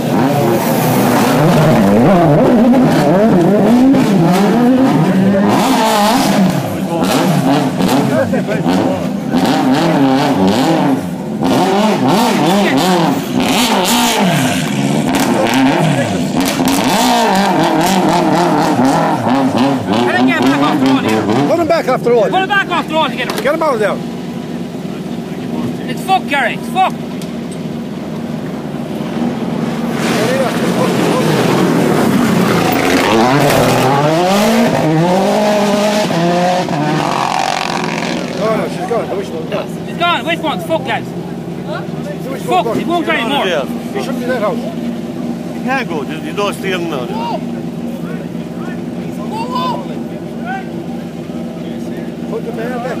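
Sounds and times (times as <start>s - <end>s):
car engine revving: 0.0s - 53.0s
tyre and road noise: 0.0s - 53.0s.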